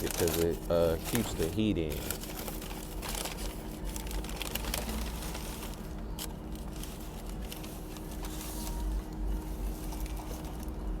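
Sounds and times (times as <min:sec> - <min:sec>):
food wrapping crinkling: 0:00.0 - 0:11.0
steady low hum: 0:00.0 - 0:11.0.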